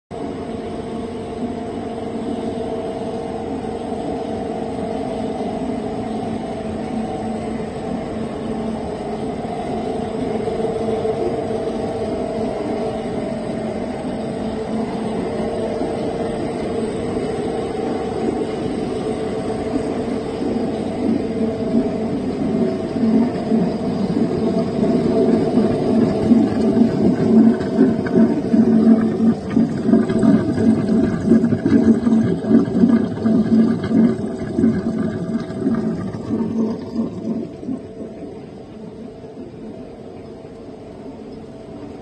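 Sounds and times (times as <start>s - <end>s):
machine humming: 0.1s - 42.0s.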